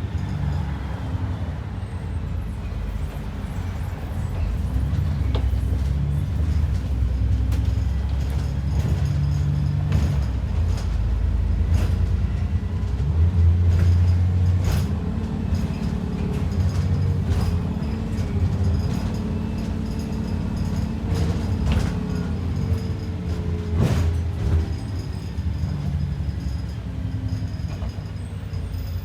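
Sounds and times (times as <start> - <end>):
bus engine droning: 0.0 - 29.0
knocks and rattles from bus body: 2.5 - 29.0.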